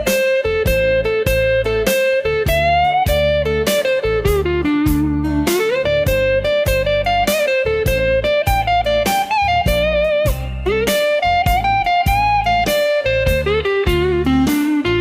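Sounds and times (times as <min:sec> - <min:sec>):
bass: 0:00.0 - 0:15.0
electric guitar lead: 0:00.0 - 0:15.0
steady drum beat: 0:02.4 - 0:14.6.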